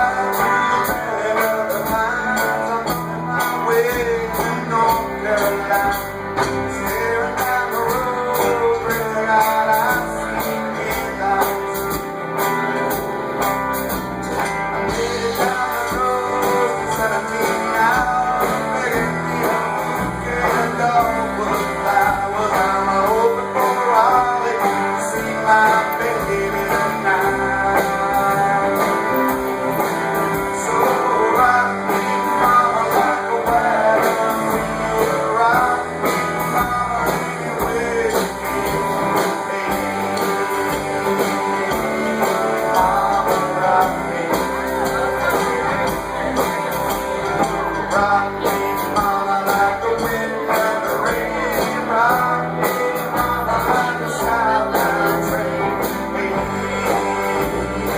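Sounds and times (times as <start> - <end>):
person singing: 0.0 - 13.1, 13.8 - 57.9
live blues-rock band: 0.0 - 57.9.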